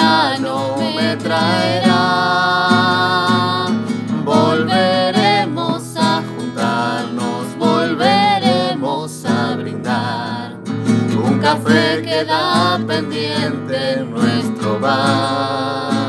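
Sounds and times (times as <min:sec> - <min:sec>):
strummed acoustic guitar: 0:00.0 - 0:16.0
woman and man singing duet: 0:00.0 - 0:16.0.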